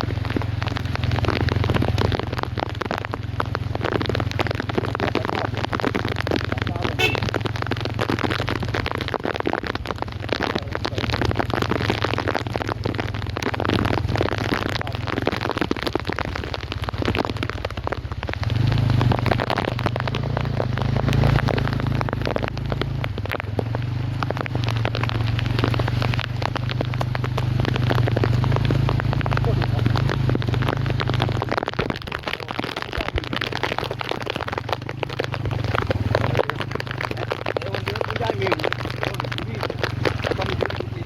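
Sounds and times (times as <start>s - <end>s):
rain pattering close: 0.0s - 41.0s.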